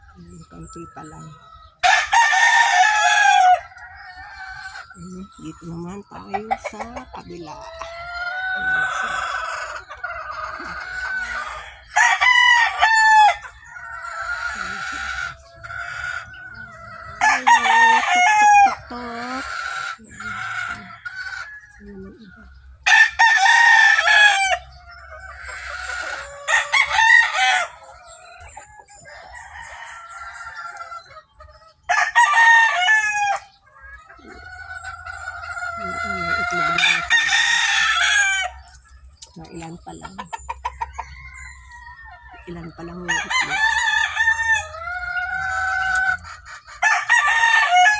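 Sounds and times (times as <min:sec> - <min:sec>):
chickens clucking: 0:00.0 - 0:47.9
roosters crowing: 0:00.0 - 0:47.9.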